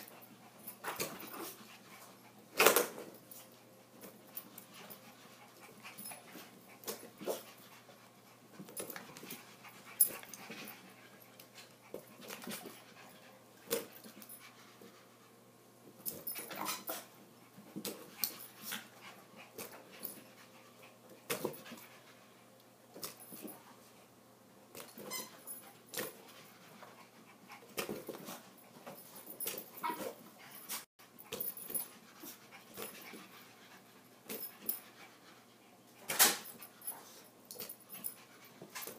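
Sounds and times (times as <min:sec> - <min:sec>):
dogs panting: 0:00.0 - 0:24.0, 0:25.4 - 0:38.9.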